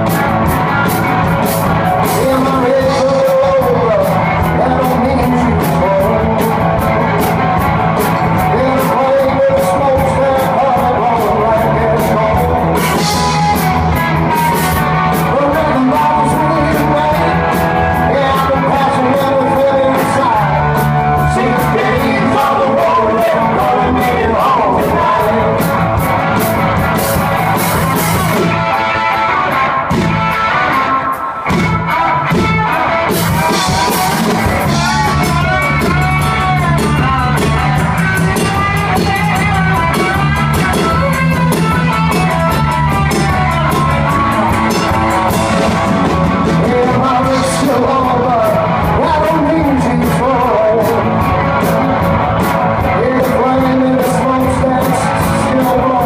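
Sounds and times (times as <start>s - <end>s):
person singing: 0.0s - 29.7s, 30.3s - 56.0s
bass guitar: 0.0s - 56.0s
drum kit: 0.0s - 56.0s
electric guitars: 0.0s - 56.0s.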